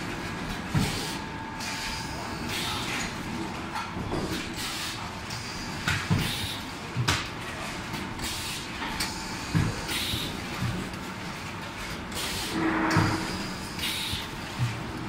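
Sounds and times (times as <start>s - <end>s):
workshop machinery hum: 0.0s - 15.0s.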